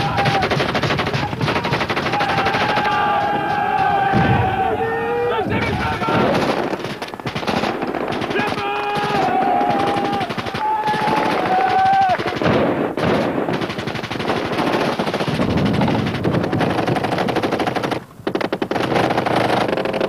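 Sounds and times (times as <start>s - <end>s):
automatic gunfire: 0.0s - 3.4s, 5.6s - 20.0s.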